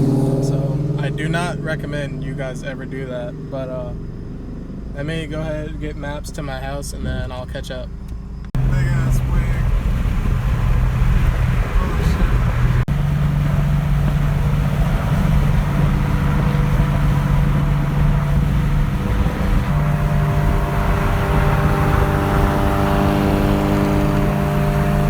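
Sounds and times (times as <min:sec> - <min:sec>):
car engine drone: 0:00.0 - 0:25.0
road noise: 0:00.0 - 0:25.0.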